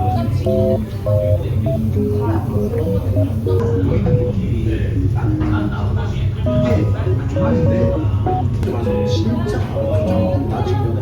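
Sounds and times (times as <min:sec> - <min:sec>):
plucked guitar melody: 0:00.0 - 0:04.5, 0:06.5 - 0:11.0.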